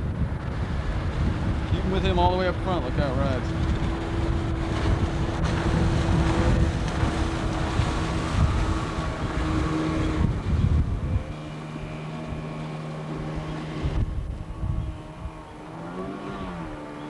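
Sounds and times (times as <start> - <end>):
motorboat engine running: 0.0 - 17.0
wind buffeting microphone: 0.0 - 17.0.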